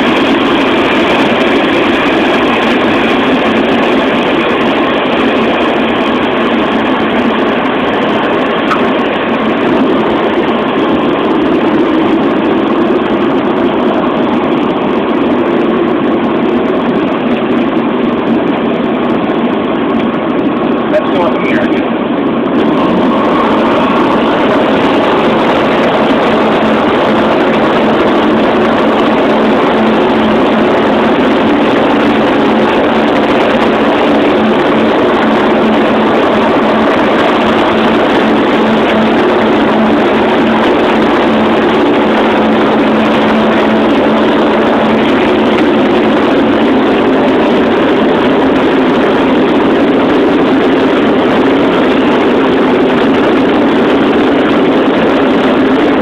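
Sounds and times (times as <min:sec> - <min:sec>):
aircraft engine drone: 0:00.0 - 0:56.0.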